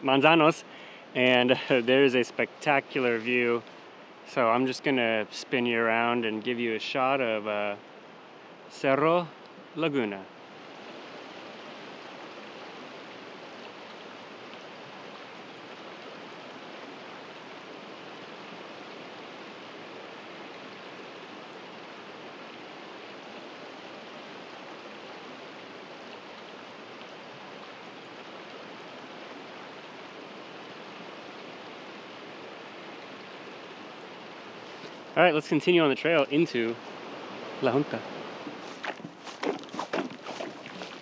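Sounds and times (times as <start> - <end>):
stream rushing: 0.0 - 41.0.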